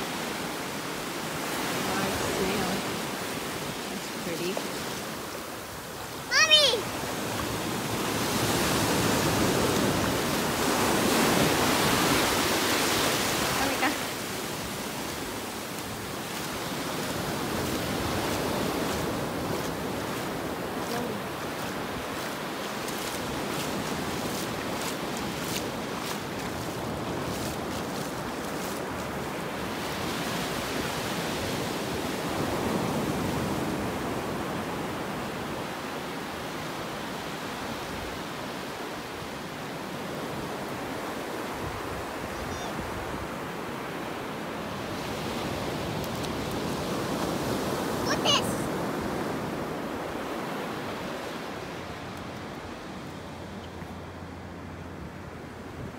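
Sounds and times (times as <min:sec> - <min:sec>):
waves washing up beach: 0:00.0 - 0:55.9.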